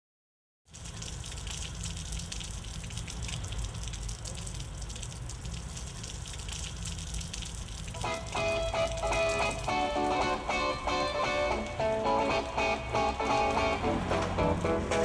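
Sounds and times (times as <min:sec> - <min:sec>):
water splashing onto paving: 0:00.7 - 0:15.0.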